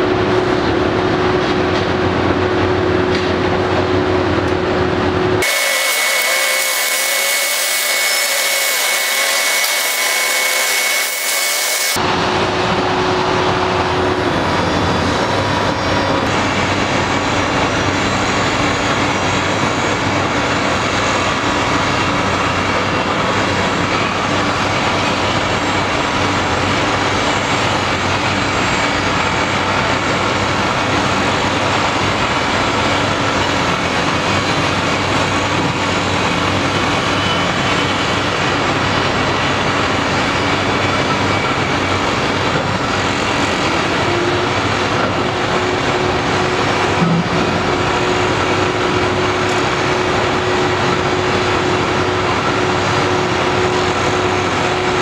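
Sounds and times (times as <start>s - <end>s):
excavator diesel engine rumbling: 0.0s - 5.4s, 12.0s - 55.0s
steady high whine: 0.0s - 55.0s.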